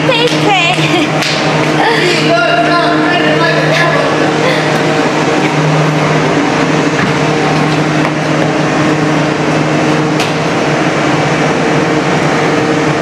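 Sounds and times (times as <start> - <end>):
loud mechanical drone: 0.0 - 13.0.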